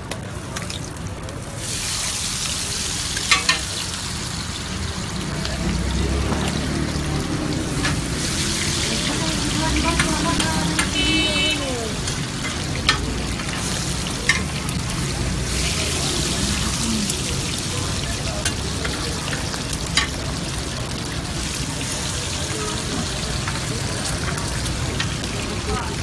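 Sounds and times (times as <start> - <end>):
kebabs sizzling in oil: 0.0 - 26.0.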